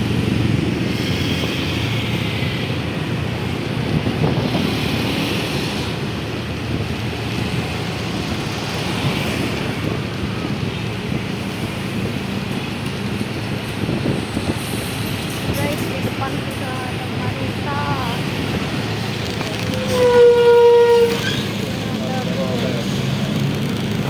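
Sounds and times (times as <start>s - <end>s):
road vehicle running noise: 0.0s - 24.0s
wind buffeting microphone: 0.0s - 24.0s.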